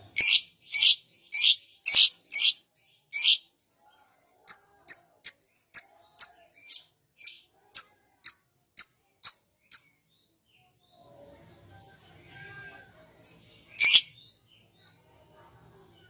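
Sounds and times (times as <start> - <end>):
songbird chirping: 0.0 - 11.1, 13.2 - 16.0.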